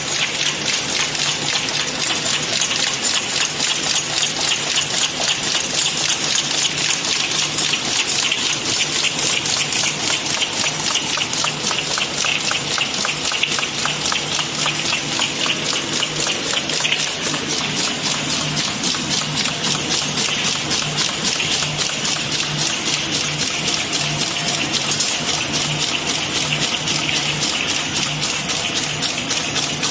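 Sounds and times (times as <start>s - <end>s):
machine mechanism clattering: 0.0s - 29.9s.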